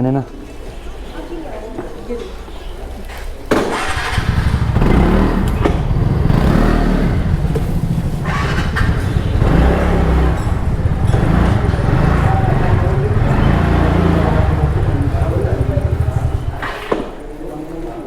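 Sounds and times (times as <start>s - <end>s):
scooter engine running: 2.5s - 17.5s.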